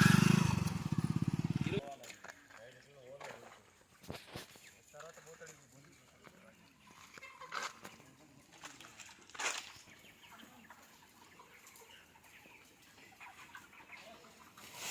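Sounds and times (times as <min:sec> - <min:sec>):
chicks peeping faintly: 0:00.0 - 0:14.9.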